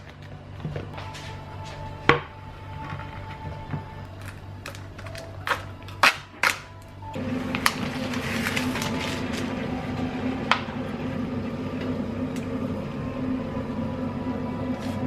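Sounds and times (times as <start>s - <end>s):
appliance motor humming: 0.0s - 15.0s.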